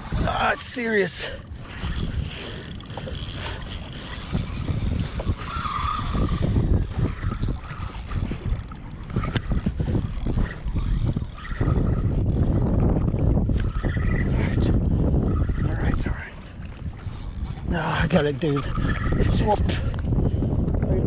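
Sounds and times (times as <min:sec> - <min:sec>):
water sloshing against kayak: 0:00.0 - 0:20.2
wind buffeting microphone: 0:00.0 - 0:21.0.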